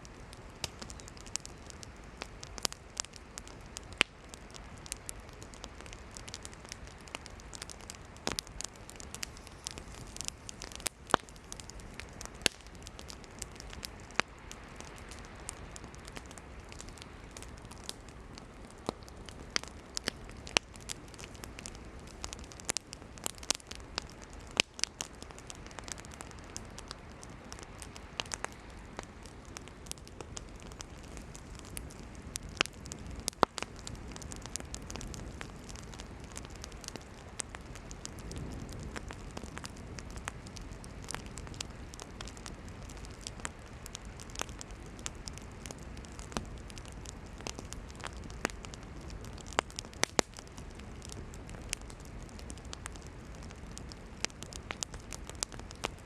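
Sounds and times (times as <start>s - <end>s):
campfire crackling and popping: 0.0s - 56.0s
hiss of flames: 0.0s - 56.0s.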